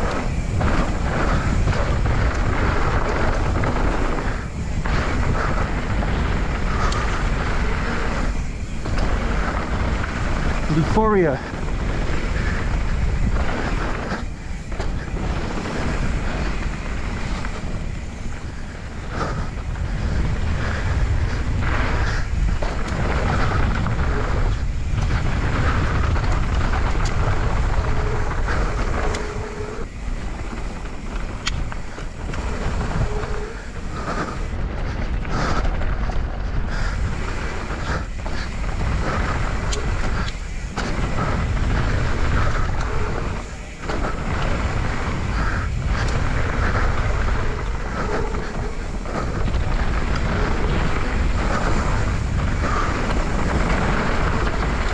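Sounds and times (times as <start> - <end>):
bike clicking and rattling: 0.0 - 54.9
tyres rolling on dirt trail: 0.0 - 54.9
wind rushing over microphone: 0.0 - 54.9.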